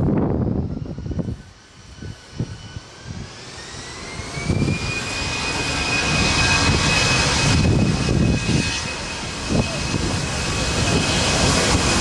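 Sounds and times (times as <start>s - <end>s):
jet engines spooling up: 0.0s - 12.0s.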